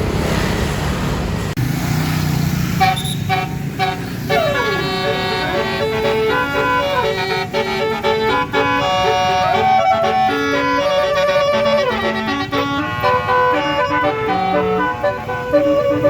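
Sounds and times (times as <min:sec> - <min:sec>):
bus horn playing melody: 0:02.8 - 0:16.0.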